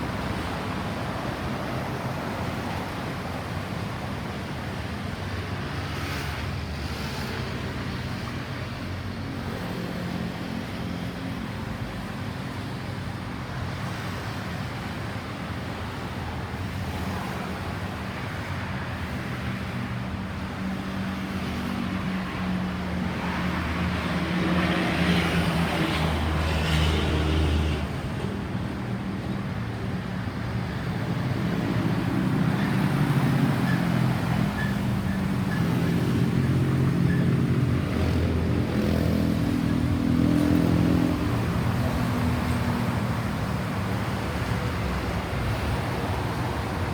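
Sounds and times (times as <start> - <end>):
vehicles passing by: 0.0 - 46.9.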